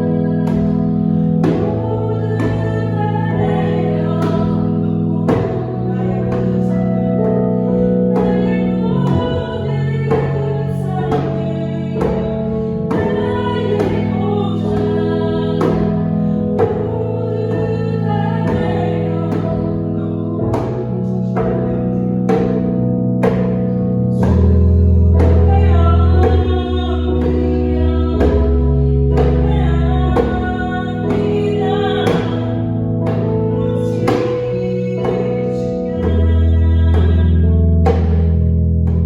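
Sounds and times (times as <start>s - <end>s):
keyboard chords: 0.0s - 39.0s
person singing: 0.0s - 39.0s.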